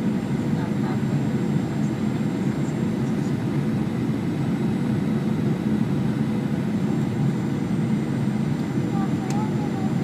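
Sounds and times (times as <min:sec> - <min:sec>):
airplane cabin jet engine roar: 0:00.0 - 0:10.0.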